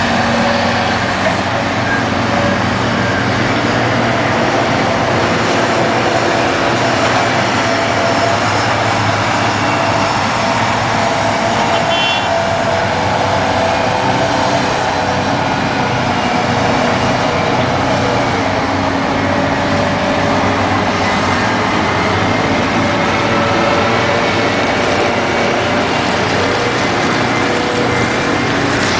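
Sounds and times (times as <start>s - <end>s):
heavy diesel truck engines droning: 0.0s - 28.9s.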